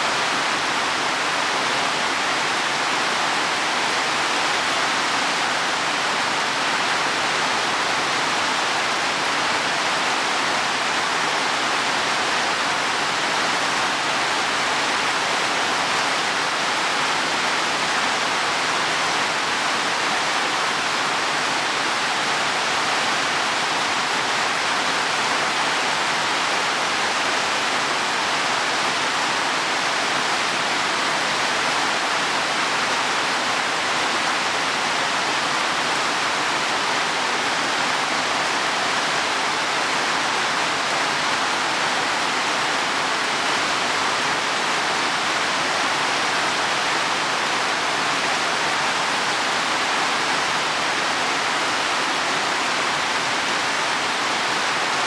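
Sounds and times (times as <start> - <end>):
heavy rain on leaves and soil: 0.0 - 55.0.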